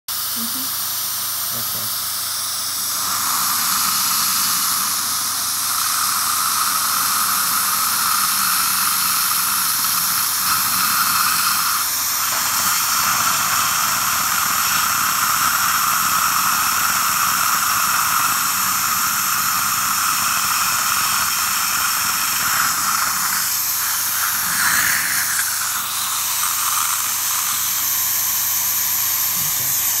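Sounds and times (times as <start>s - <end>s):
dental drill whine: 0.1s - 30.0s
suction and spray hiss: 0.1s - 30.0s.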